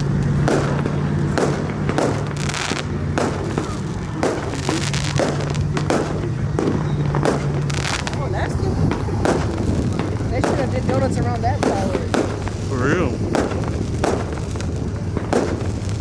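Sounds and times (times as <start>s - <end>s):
exhaust backfire cracks: 0.0s - 16.0s
truck engine at high revs: 0.0s - 16.0s.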